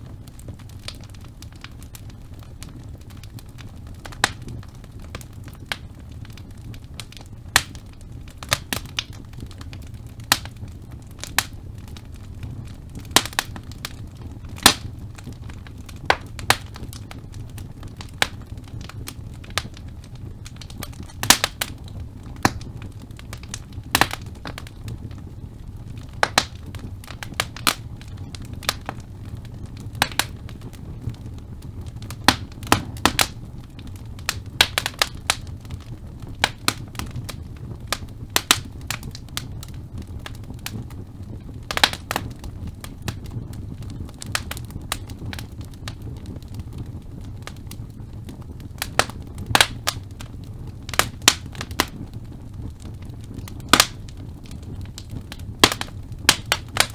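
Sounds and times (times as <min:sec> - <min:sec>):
low rumble of flames: 0:00.0 - 0:56.9
wood fire crackling and popping: 0:00.0 - 0:56.9.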